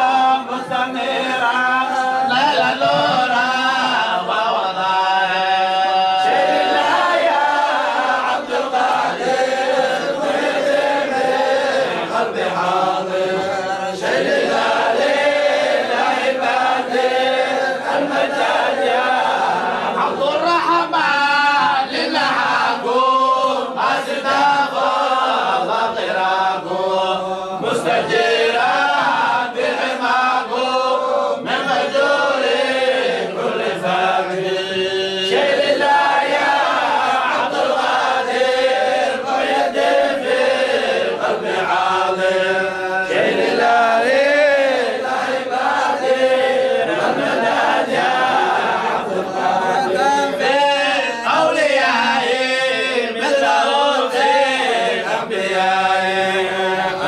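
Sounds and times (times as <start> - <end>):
men chanting through microphones: 0.0 - 57.0.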